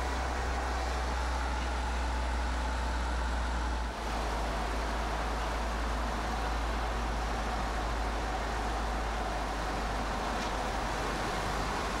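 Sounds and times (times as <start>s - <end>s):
car driving on street: 0.0s - 12.0s.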